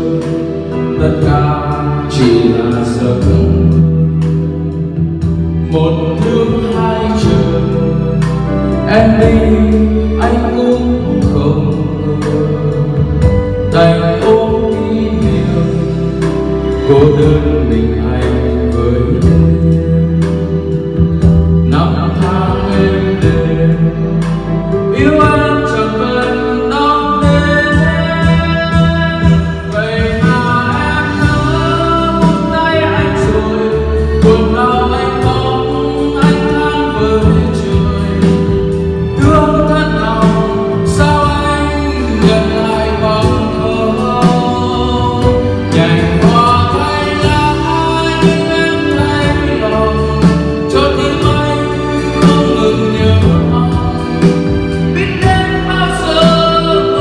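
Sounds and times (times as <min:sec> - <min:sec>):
love ballad with instrumental backing: 0:00.0 - 0:57.0.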